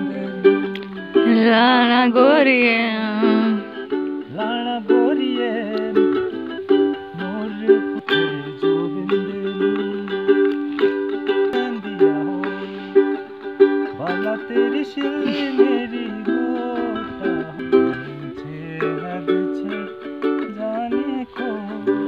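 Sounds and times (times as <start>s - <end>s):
ukulele strummed and picked: 0.0s - 22.0s.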